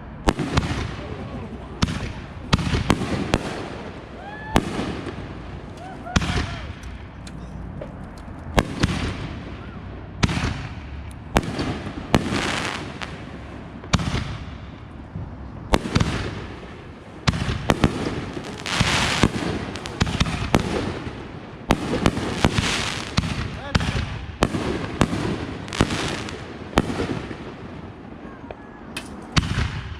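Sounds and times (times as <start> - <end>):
fireworks crackling and hissing: 0.0 - 28.3, 29.1 - 29.9
fireworks banging: 0.2 - 28.2, 29.0 - 29.9.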